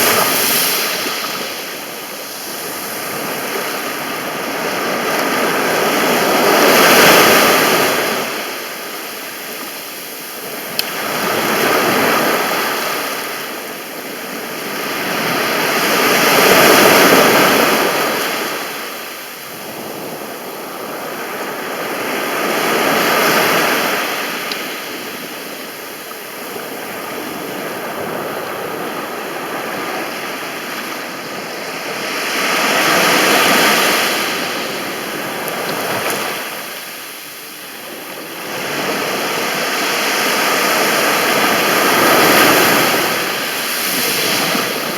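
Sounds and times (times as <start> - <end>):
sea waves breaking on beach: 0.0 - 44.9.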